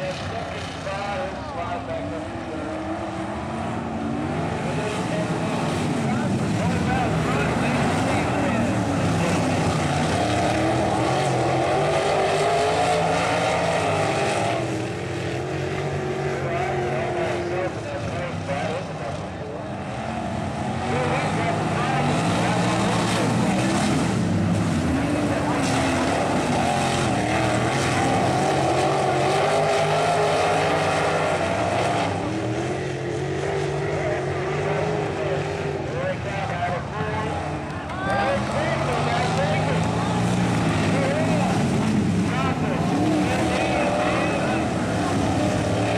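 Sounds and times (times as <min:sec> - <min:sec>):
sprint car engines racing: 0:00.0 - 0:45.9.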